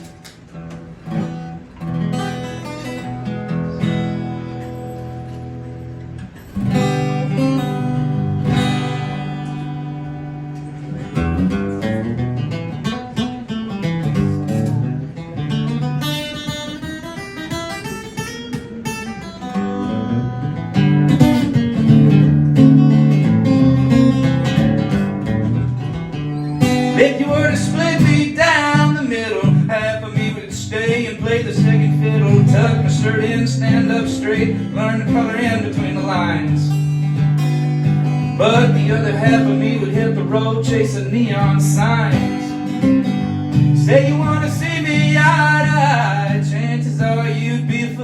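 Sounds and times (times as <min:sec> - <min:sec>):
acoustic guitar strumming: 0:00.0 - 0:48.0
country music accompaniment: 0:00.0 - 0:48.0.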